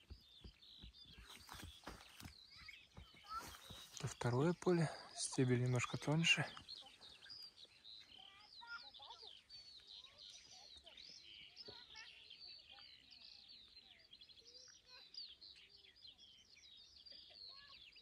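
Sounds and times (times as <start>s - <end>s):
faint songbirds chorus: 0.0s - 18.0s.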